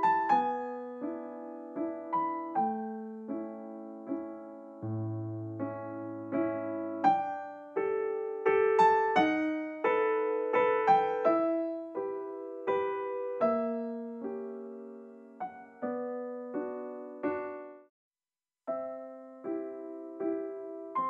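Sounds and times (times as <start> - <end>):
piano melody: 0.0 - 17.9, 18.7 - 21.0.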